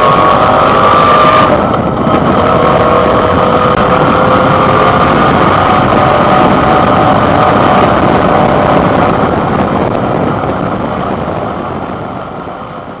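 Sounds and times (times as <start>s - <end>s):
motorcycle engine running: 0.0s - 13.0s
wind noise: 0.0s - 13.0s.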